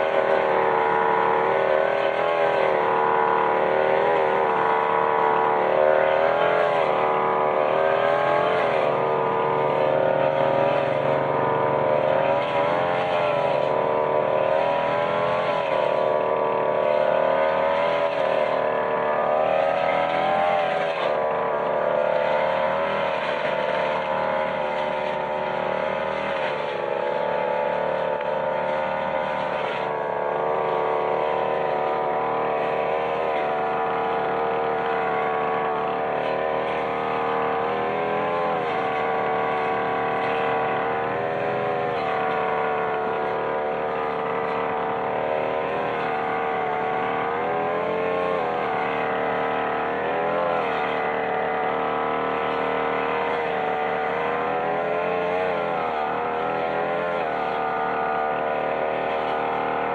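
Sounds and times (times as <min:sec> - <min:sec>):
brush cutter engine cutting grass: 0:00.0 - 0:59.9.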